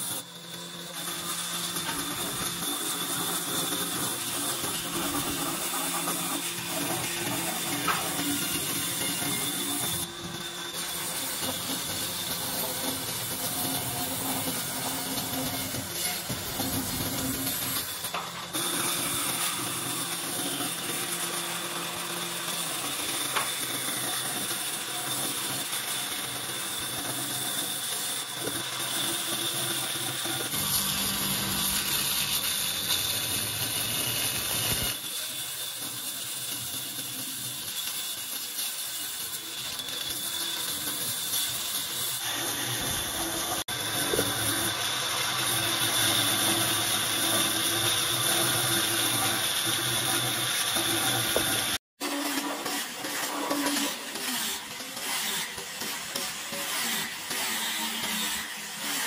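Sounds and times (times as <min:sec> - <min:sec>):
bandsaw cutting wood: 0:00.0 - 0:59.0.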